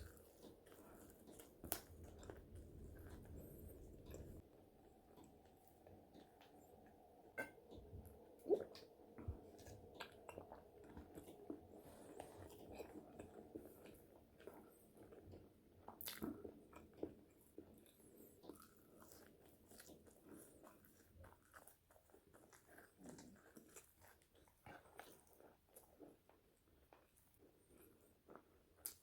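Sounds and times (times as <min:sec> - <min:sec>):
chewing crunchy fries: 0:00.0 - 0:07.4, 0:08.1 - 0:29.0.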